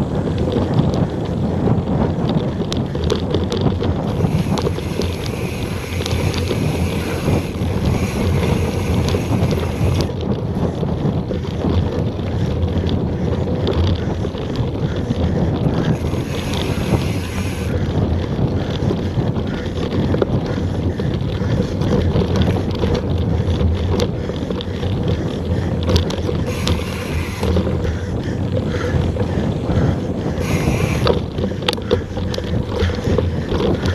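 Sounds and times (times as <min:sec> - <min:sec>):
bike clicks and rattles: 0:00.0 - 0:33.9
bike tyres on dirt: 0:00.0 - 0:33.9
wind rushing over microphone: 0:00.0 - 0:33.9.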